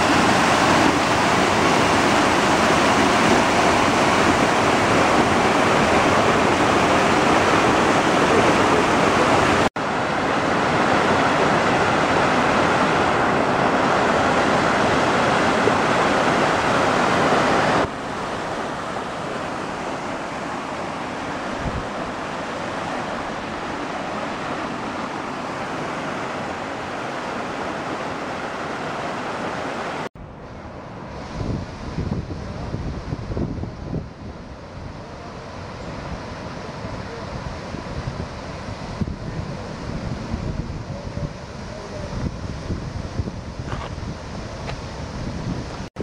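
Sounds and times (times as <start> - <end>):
water rushing down a gully: 0.0 - 46.0.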